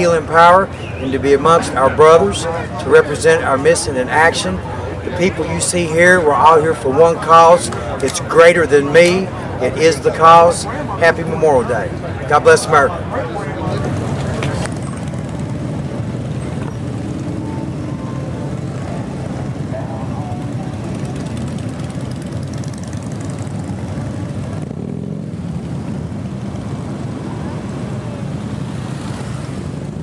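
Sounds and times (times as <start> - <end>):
motorcycle engines rumbling: 0.0 - 30.0.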